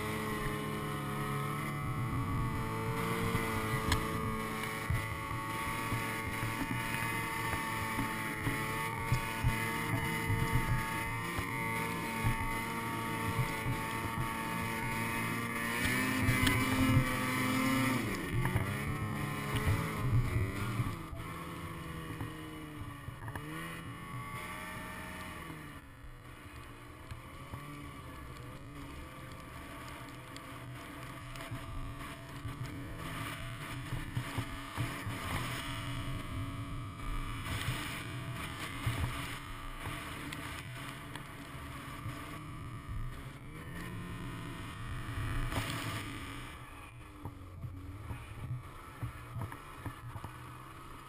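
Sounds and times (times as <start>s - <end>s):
snowmobile engine revving: 0.0s - 51.0s.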